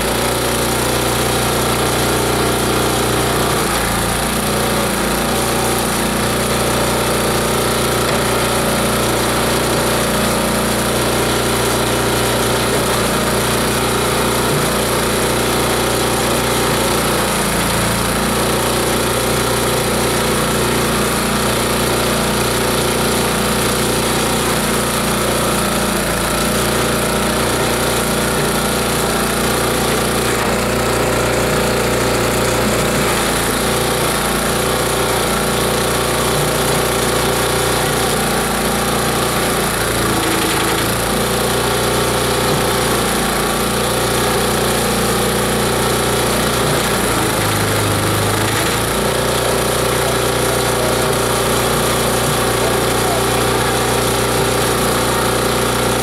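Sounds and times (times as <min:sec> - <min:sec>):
grinding machine running: 0:00.0 - 0:56.0.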